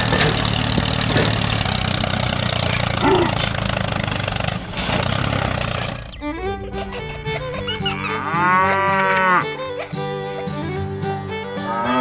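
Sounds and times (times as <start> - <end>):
tractor engine idling: 0.0 - 11.6.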